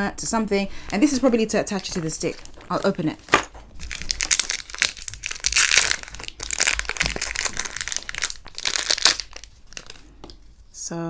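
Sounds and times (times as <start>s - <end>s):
packaging crinkling: 0.8s - 10.6s.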